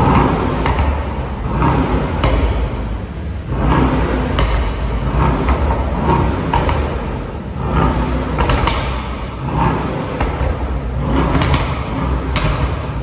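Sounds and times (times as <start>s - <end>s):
car engine revving: 0.0s - 13.0s
exhaust cracks and pops: 0.0s - 13.0s.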